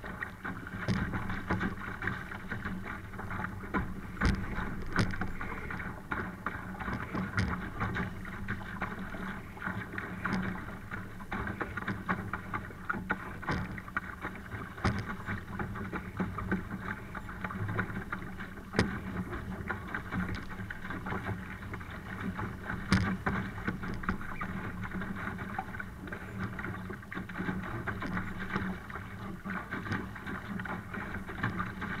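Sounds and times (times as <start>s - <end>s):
water splashing against hull: 0.0s - 32.0s.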